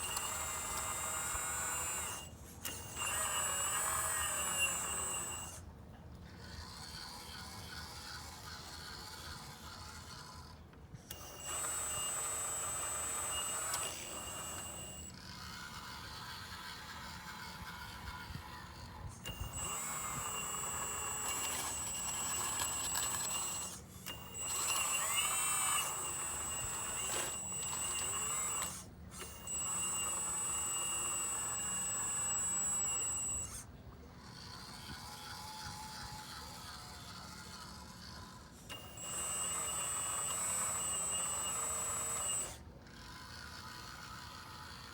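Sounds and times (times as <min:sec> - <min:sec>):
hydraulic pump whining: 0:00.0 - 0:44.9
machine running quietly: 0:00.0 - 0:44.9.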